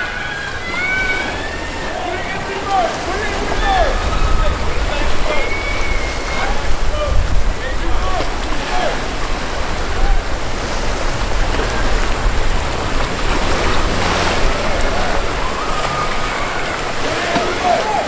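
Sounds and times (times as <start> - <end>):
wind rumbling on microphone: 0.0 - 17.2
water splashing around boat hull: 0.0 - 18.0.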